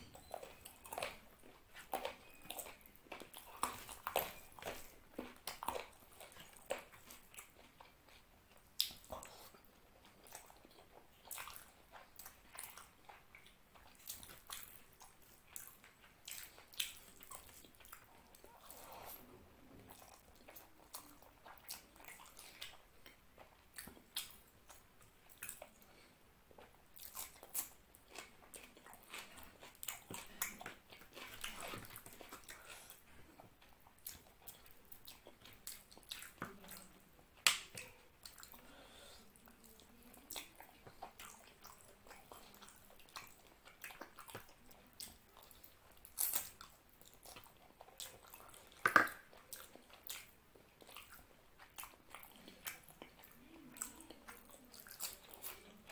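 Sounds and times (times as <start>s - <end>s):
wet chewing with clicks: 0.1s - 55.9s.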